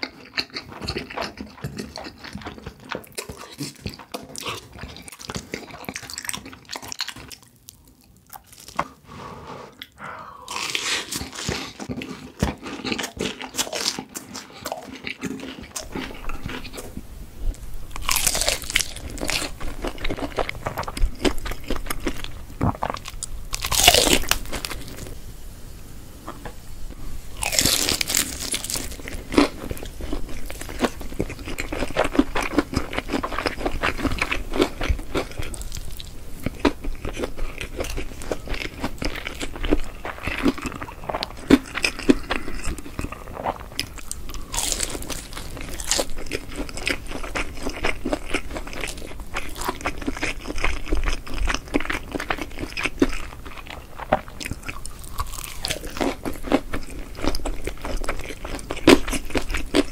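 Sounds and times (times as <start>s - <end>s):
crunching bites and chewing: 0.0s - 8.8s, 10.5s - 16.8s, 17.9s - 25.0s, 27.4s - 59.9s.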